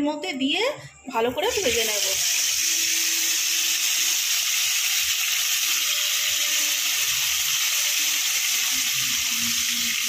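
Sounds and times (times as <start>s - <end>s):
chicken sizzling in hot oil: 1.5s - 10.0s.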